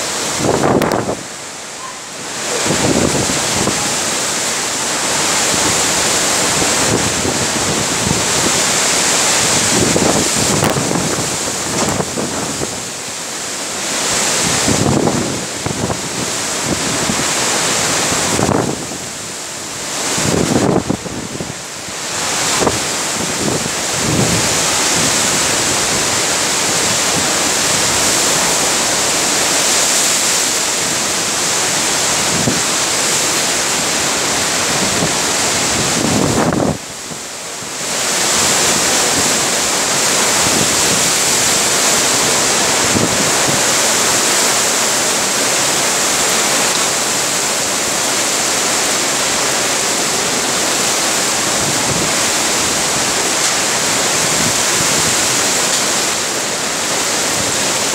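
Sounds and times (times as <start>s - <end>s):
strong wind roaring through trees: 0.0s - 57.9s.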